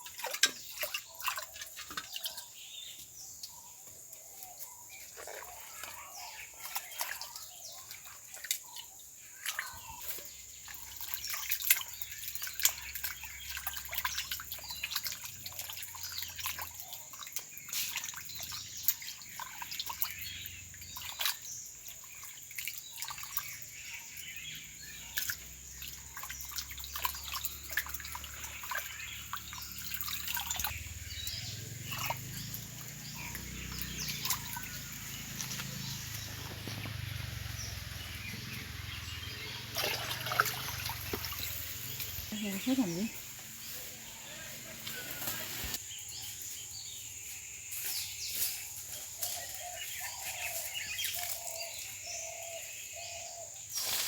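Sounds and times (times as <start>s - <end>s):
water dripping and splashing: 0.0s - 45.8s, 47.2s - 53.1s.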